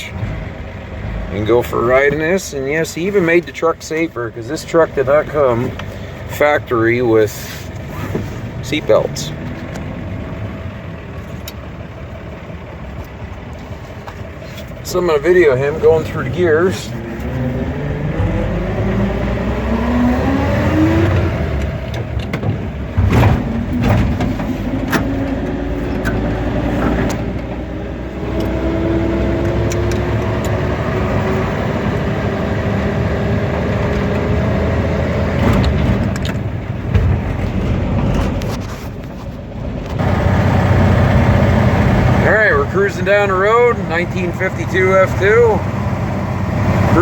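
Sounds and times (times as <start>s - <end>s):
truck engine accelerating: 0.0s - 47.0s.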